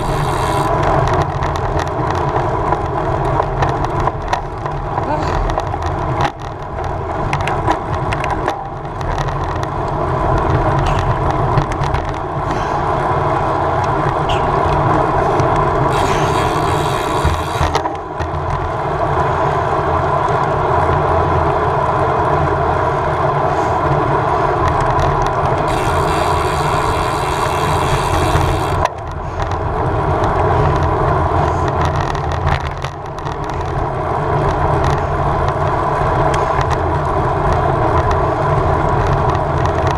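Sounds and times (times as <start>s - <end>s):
bike tyre noise on road: 0.0s - 39.9s.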